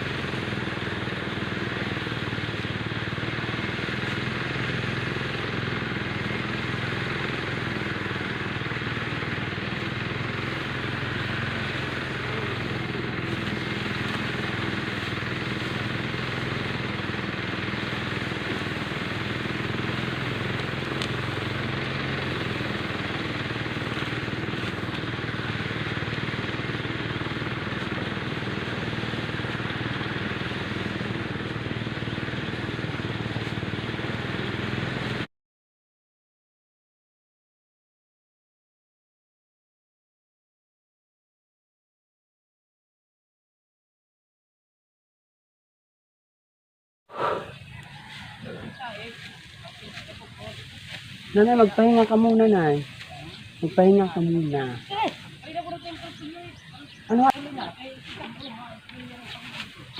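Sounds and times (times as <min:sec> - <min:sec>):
small engine running: 0:00.0 - 0:35.3, 0:47.1 - 0:59.9.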